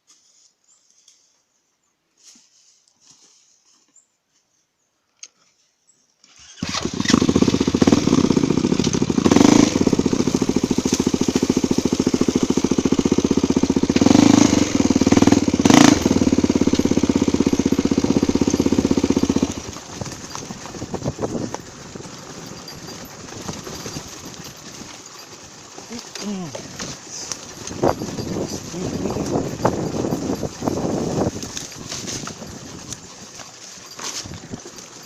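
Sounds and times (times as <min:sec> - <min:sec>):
motorcycle engine revving: 0:06.4 - 0:35.0.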